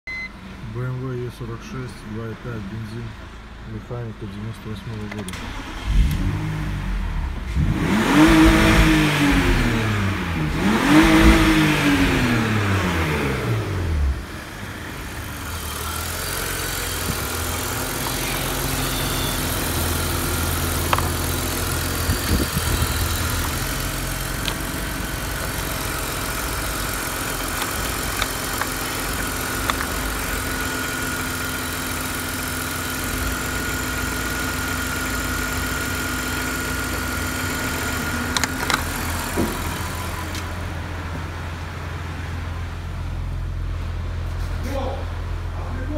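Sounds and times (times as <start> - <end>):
car engine idling: 0.1 - 45.9.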